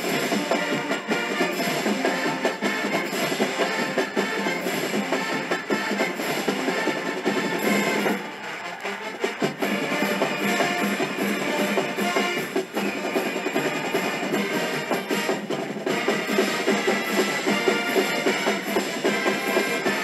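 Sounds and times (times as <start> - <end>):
drums: 0.0 - 20.0
marching band playing: 0.0 - 20.0.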